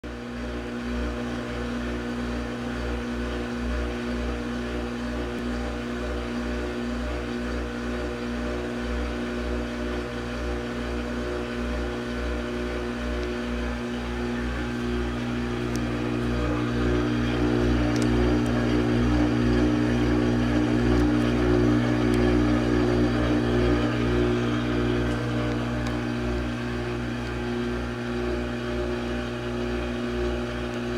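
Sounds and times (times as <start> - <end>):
washing machine drain pump humming: 0.5 - 30.9.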